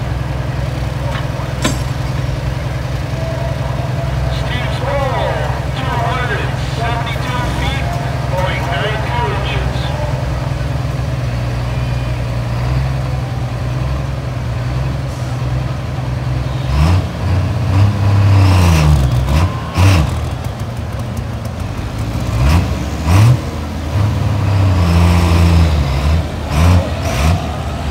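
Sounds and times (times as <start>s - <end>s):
diesel engine idling and revving: 0.0s - 27.9s.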